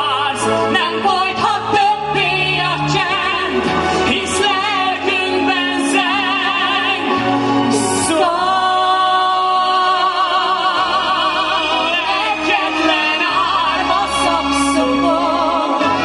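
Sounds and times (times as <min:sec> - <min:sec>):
man and woman singing a duet: 0:00.0 - 0:16.0.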